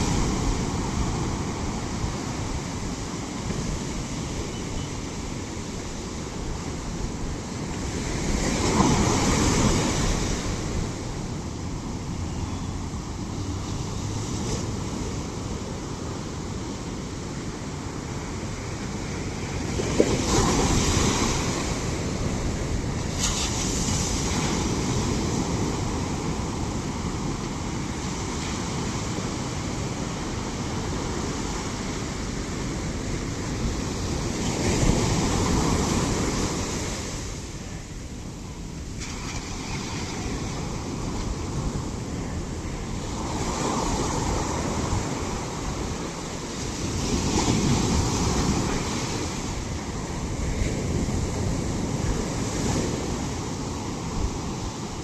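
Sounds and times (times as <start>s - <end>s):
big waves crashing: 0.0s - 55.0s
ocean waves washing: 0.0s - 55.0s.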